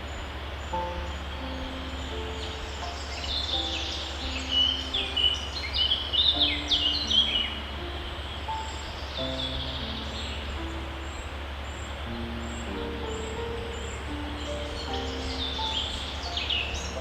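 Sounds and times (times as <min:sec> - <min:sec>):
small birds chirping: 0:00.0 - 0:17.0
soft held low tones: 0:00.0 - 0:17.0.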